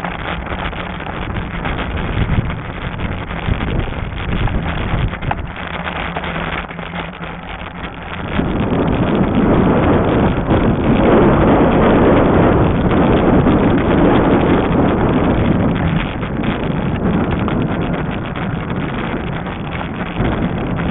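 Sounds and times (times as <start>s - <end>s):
low steady hum: 0.0s - 20.9s
wind blowing across microphone: 0.0s - 20.9s.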